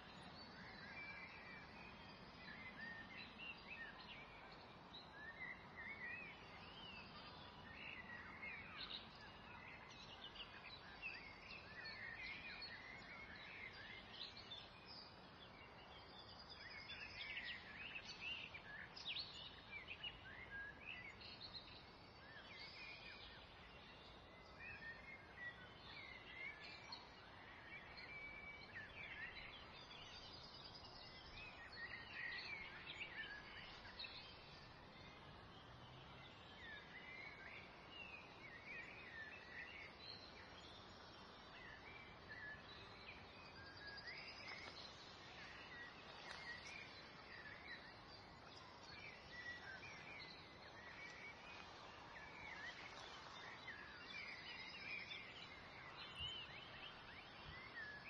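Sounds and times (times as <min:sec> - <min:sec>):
low steady hiss: 0:00.0 - 0:58.0
small birds chirping: 0:00.0 - 0:58.0.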